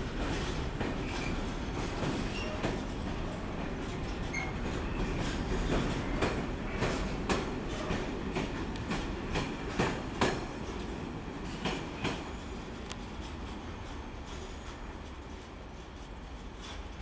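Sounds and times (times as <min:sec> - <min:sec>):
train wheels rumbling: 0:00.0 - 0:17.0
clanks over rail joints: 0:00.2 - 0:17.0.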